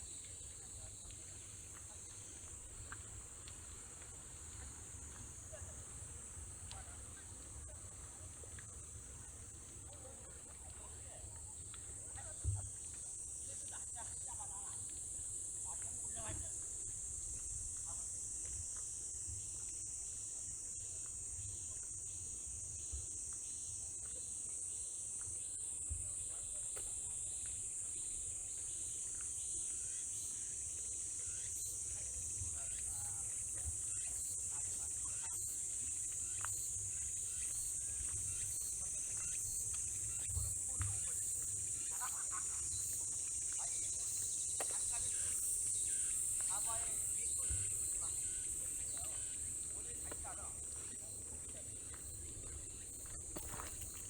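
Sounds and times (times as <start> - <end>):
insect chorus trilling: 0.0 - 54.0.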